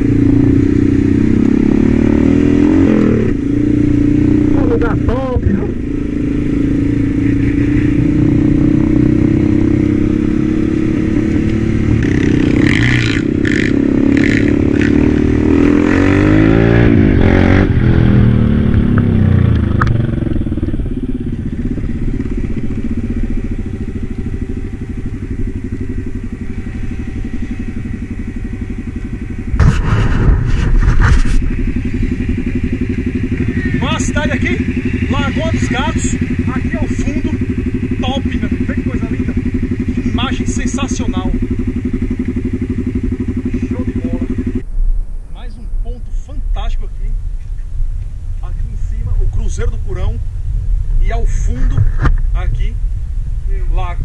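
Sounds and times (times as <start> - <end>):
atv engine running: 0.0 - 54.0
dirt bike engine passing: 0.0 - 54.0.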